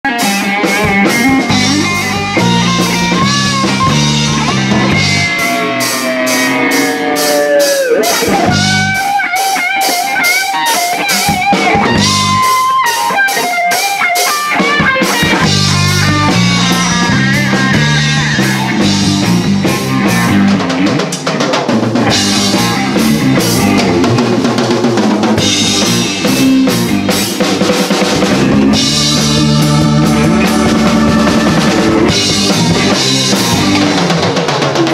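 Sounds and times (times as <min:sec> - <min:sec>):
bass guitar: 0:00.0 - 0:34.9
drum kit steady beat: 0:00.0 - 0:34.9
electric guitar: 0:00.0 - 0:34.9.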